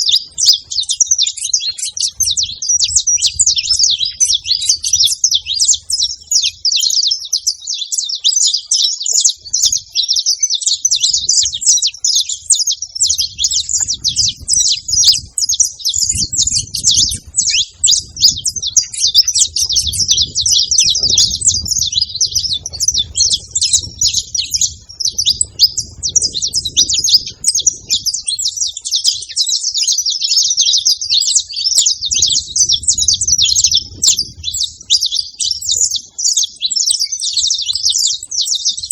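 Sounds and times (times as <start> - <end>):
finches chattering: 0.0 - 38.9.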